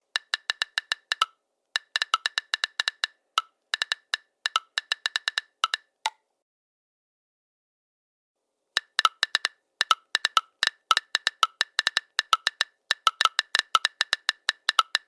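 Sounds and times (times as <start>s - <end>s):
smartphone keyboard clicks: 0.1s - 6.2s, 8.8s - 15.0s.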